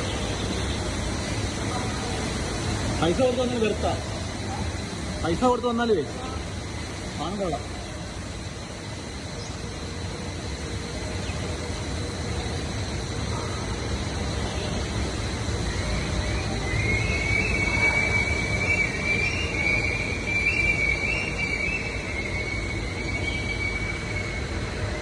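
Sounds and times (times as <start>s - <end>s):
long high-pitched squeal: 0.0s - 25.0s.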